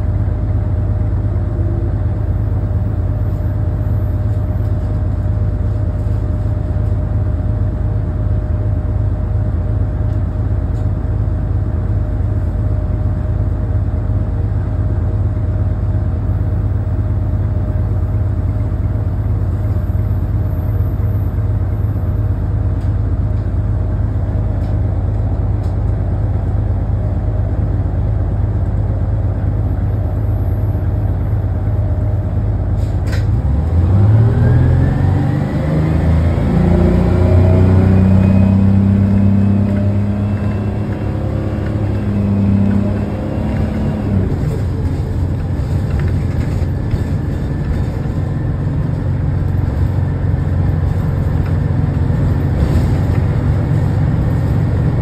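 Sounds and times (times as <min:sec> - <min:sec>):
bus engine rumble: 0:00.0 - 0:55.0
rising whine of bus: 0:00.0 - 0:55.0.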